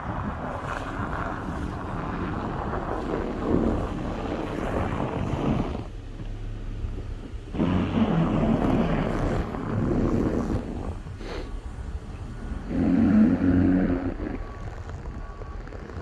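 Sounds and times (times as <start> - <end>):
wind gusting over microphone: 0.0 - 6.0, 6.8 - 16.0
steady low hum: 0.0 - 16.0.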